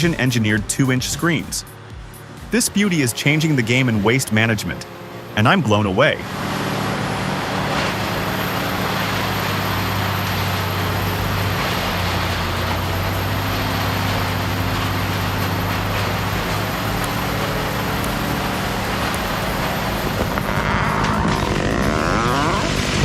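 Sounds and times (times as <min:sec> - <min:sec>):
deep diesel engine drone: 0:00.0 - 0:23.0
wood grinder grinding: 0:03.5 - 0:23.0.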